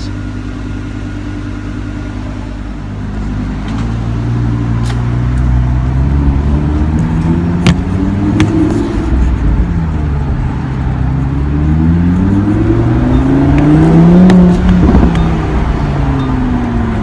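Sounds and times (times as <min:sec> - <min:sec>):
car engine accelerating: 0:00.4 - 0:17.0.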